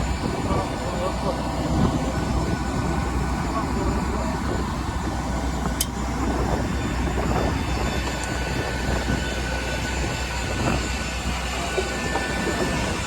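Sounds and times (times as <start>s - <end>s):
aircraft cabin low rumble: 0.0s - 13.0s.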